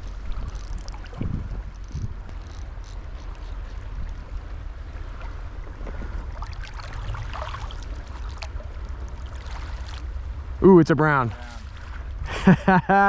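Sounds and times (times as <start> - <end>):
river water running: 0.0 - 13.0
wind rumble on microphone: 0.0 - 13.0.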